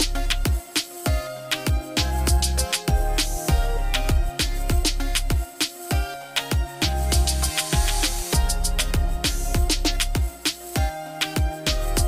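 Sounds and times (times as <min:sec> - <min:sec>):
deep kick drum: 0:00.0 - 0:06.0, 0:06.6 - 0:12.0
background music with beat: 0:00.0 - 0:12.0.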